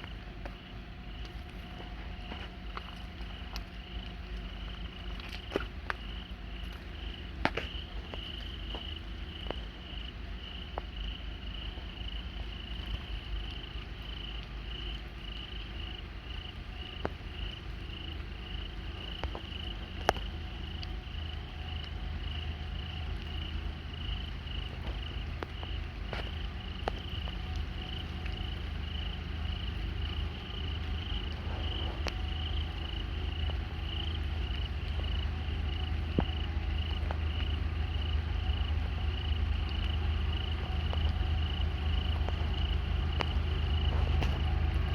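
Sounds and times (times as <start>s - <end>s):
diesel locomotives rumbling: 0.0s - 44.9s
insect chirping: 0.0s - 44.9s.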